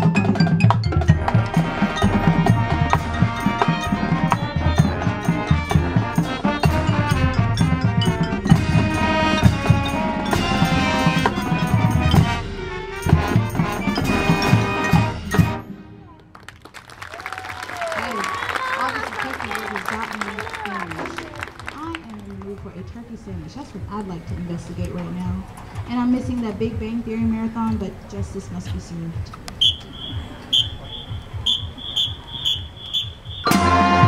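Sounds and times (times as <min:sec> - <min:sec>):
marching band playing: 0:00.0 - 0:34.0.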